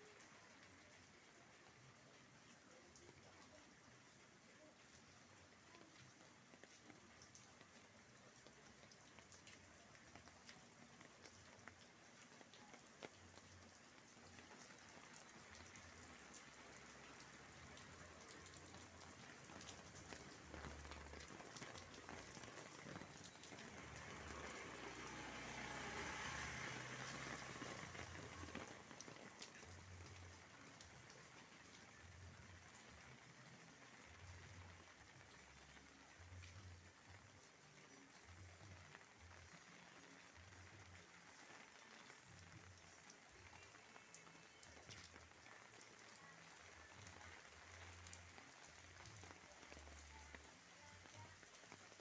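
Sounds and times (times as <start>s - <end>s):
light rain: 0.0s - 52.0s
raindrops ticking on surfaces: 0.0s - 52.0s.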